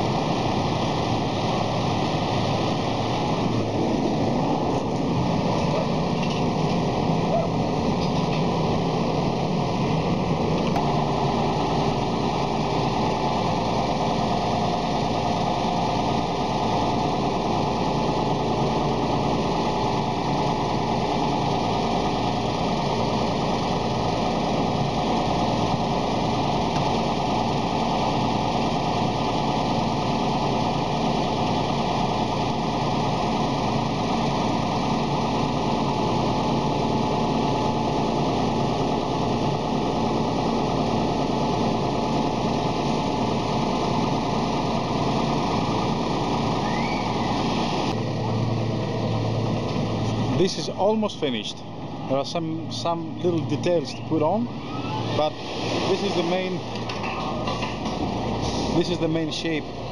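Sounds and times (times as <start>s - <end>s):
machine engine running steadily: 0.0s - 59.9s.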